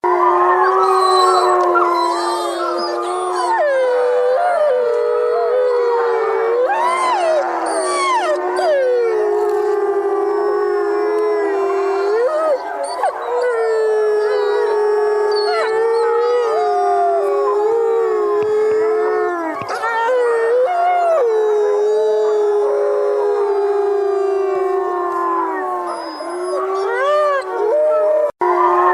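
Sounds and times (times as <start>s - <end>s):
wolves howling in chorus: 0.0s - 28.9s.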